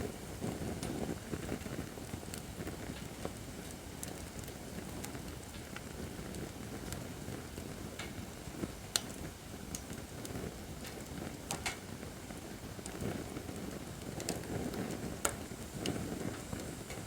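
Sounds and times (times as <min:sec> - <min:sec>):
campfire crackling and popping: 0:00.2 - 0:17.0.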